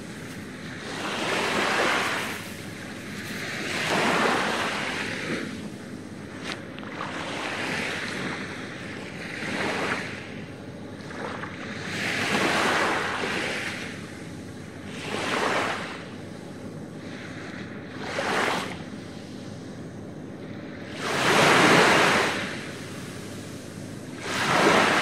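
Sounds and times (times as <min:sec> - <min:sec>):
small waves breaking on beach: 0:00.0 - 0:16.2, 0:17.0 - 0:19.4, 0:20.5 - 0:25.0.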